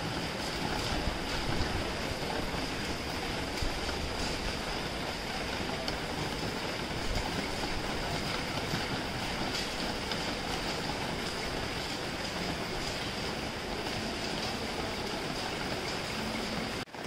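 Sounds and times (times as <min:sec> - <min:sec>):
raindrops tapping: 0:00.0 - 0:17.0
steady rain hiss: 0:00.0 - 0:17.0.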